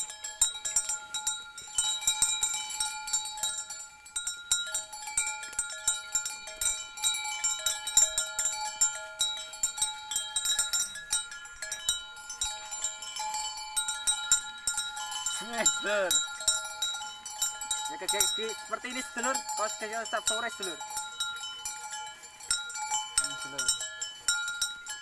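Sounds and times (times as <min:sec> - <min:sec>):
cowbells clanking: 0:00.0 - 0:25.0.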